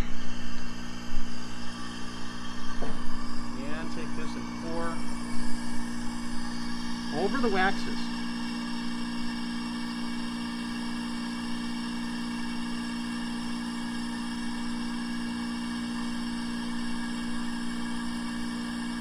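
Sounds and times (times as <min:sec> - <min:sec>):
vacuum pump motor humming: 0:00.0 - 0:19.0.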